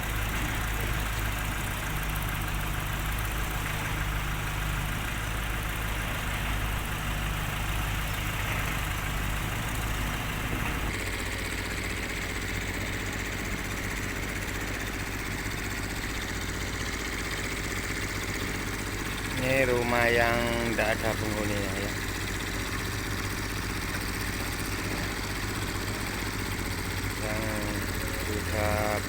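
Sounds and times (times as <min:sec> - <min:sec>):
engine running with low hum: 0:00.0 - 0:29.0.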